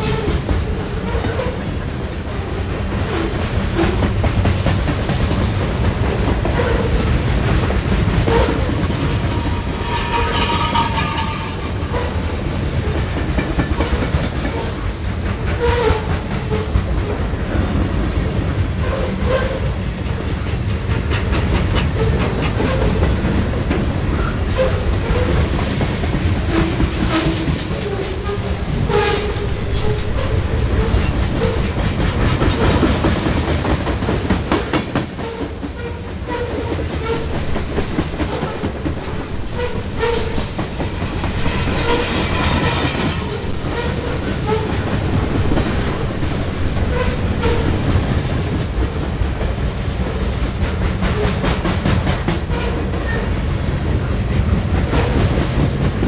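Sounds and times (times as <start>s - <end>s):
clickety-clack of wheels: 0.0s - 56.0s
freight train rumbling past: 0.0s - 56.0s.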